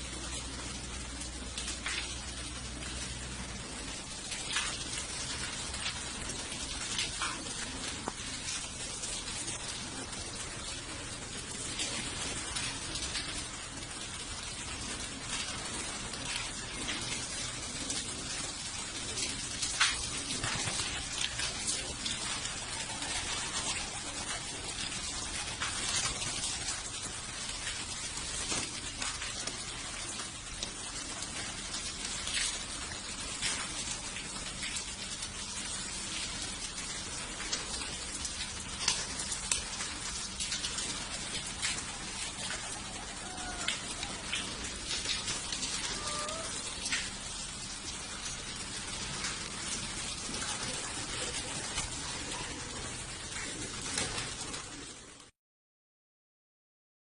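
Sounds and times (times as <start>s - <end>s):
pigeons rustling and wing claps: 0.1s - 35.2s, 35.8s - 47.2s, 47.8s - 55.2s.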